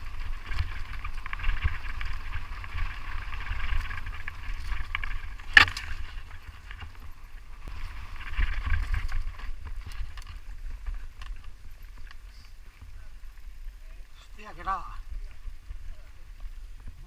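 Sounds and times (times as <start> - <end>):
crunching footsteps on rough ground: 0.0 - 17.0
wind rumbling on microphone: 0.0 - 17.0.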